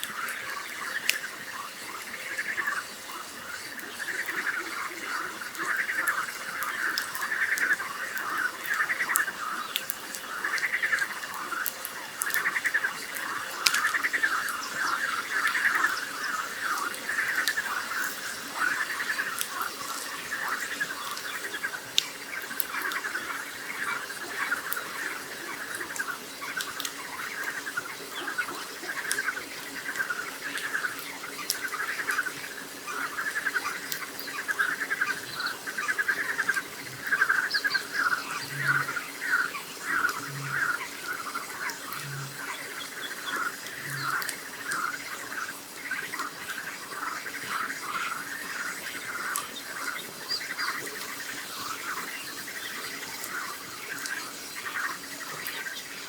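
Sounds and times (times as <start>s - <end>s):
campfire crackling: 0.0s - 56.0s
frogs croaking and trilling: 0.0s - 56.0s.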